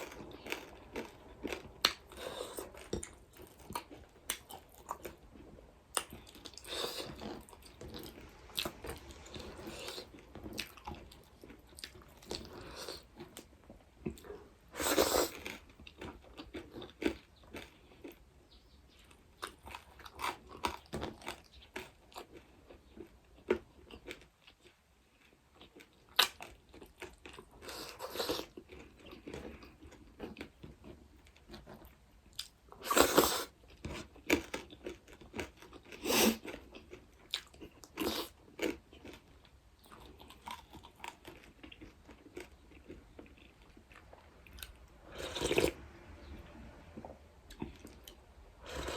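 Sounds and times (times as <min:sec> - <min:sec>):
person chewing and crunching food: 0:00.0 - 0:48.9.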